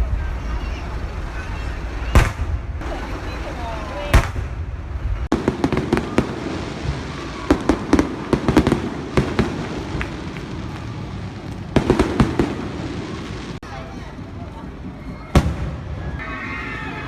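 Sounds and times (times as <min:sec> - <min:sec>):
fireworks bangs and crackles: 0:00.0 - 0:16.7.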